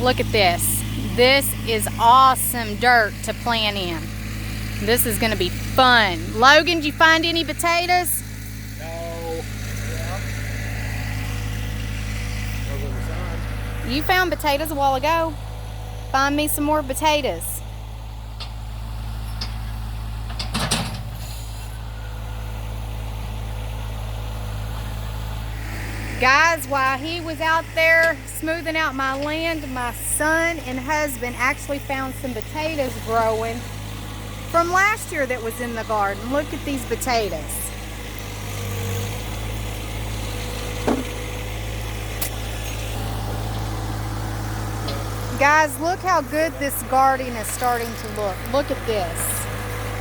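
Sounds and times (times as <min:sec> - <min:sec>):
tractor engine droning: 0:00.0 - 0:50.0.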